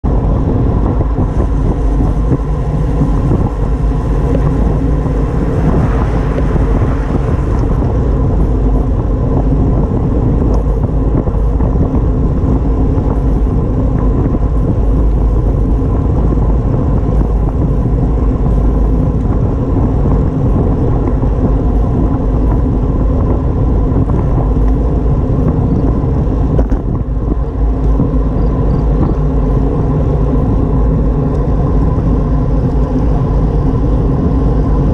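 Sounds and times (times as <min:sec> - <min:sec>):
road rumble: 0:00.0 - 0:34.9
wind buffeting microphone: 0:00.0 - 0:34.9.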